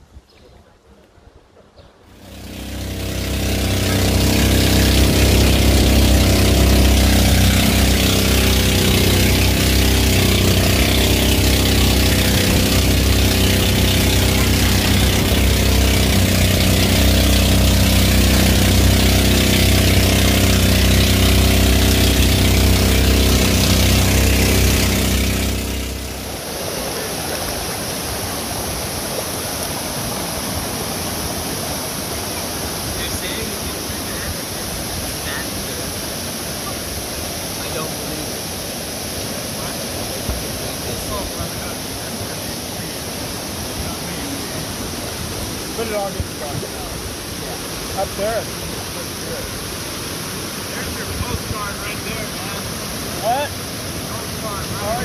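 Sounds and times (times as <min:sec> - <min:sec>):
engine running steadily: 0:02.1 - 0:55.0
steady rushing noise: 0:02.1 - 0:55.0.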